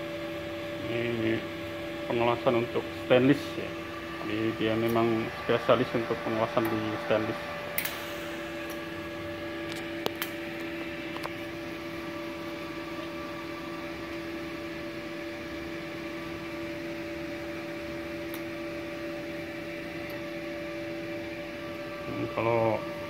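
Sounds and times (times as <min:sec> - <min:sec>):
welding arc hum and hiss: 0:00.0 - 0:23.0.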